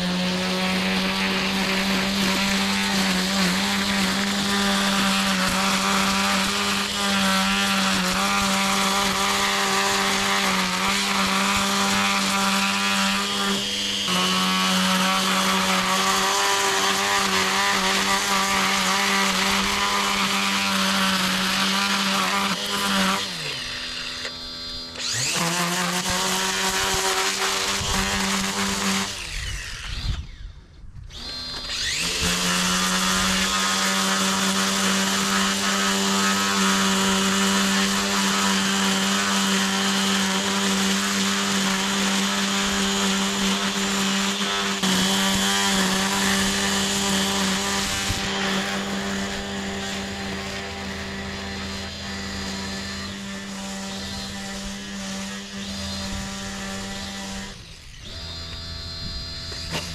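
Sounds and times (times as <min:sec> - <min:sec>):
electric grass trimmer whining: 0:00.0 - 0:59.9.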